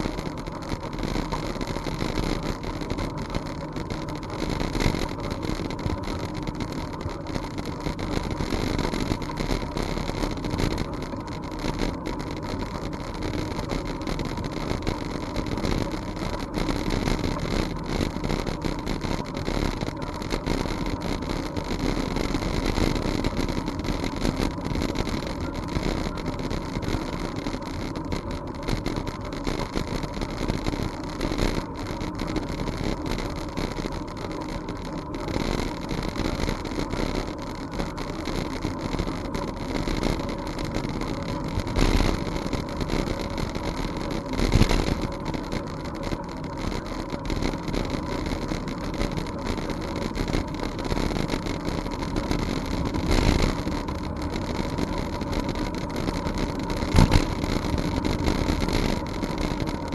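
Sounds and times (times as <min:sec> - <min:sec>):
bicycle rolling noise: 0:00.0 - 0:59.9.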